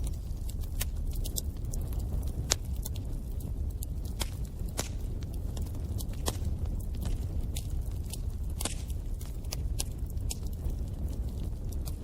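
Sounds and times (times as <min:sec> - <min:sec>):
burning wood crackling and popping: 0:00.0 - 0:12.0
low rumble of flames: 0:00.0 - 0:12.0.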